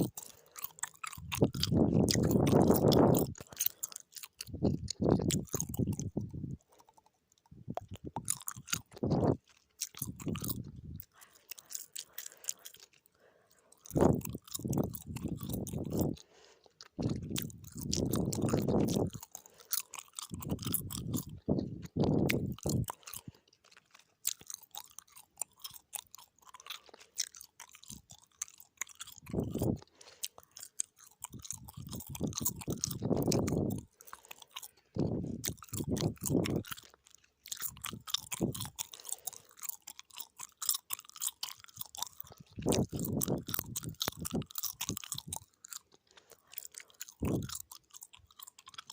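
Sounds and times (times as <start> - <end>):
gum chewing mouth sounds: 0.0 - 48.9.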